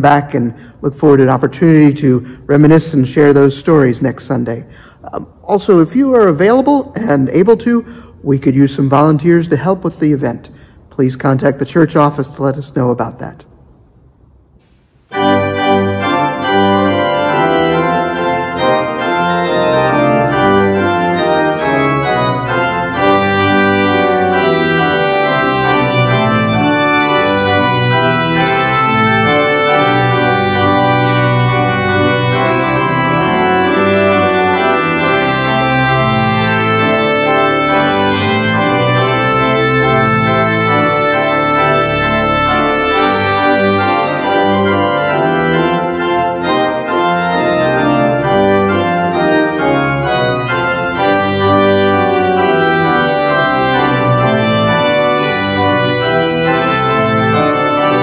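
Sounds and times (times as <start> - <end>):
church organ playing chords: 0.0 - 13.2, 14.6 - 58.0.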